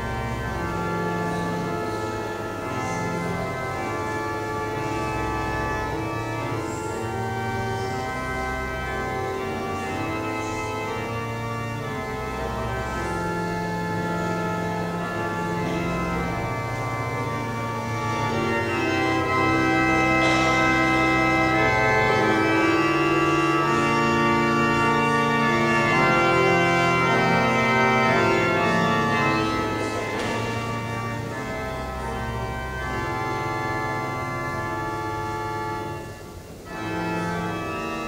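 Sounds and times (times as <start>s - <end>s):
church organ chords: 0.0s - 38.0s.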